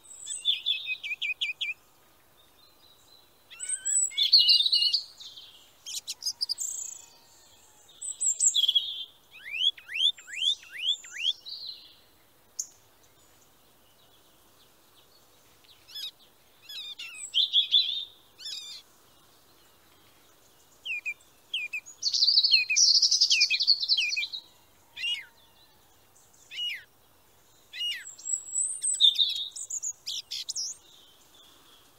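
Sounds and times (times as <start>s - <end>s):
songbird chirps and trills: 0.0s - 31.9s.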